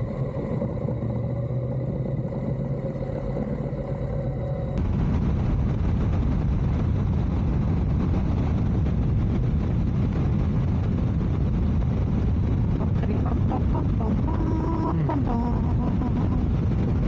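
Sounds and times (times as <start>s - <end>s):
motorcycle engine and road noise: 0.0s - 17.0s
wind buffeting a microphone: 0.0s - 17.0s.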